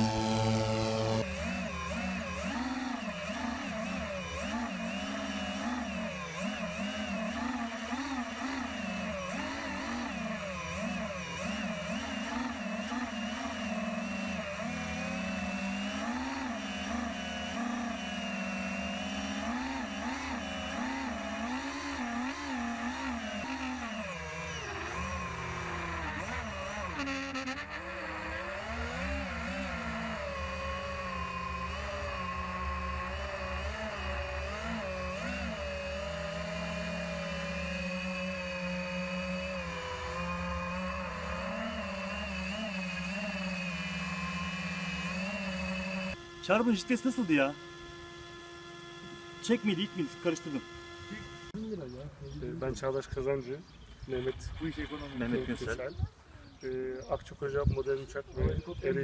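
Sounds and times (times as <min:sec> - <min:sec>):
model aircraft engine: 0:00.0 - 0:59.0.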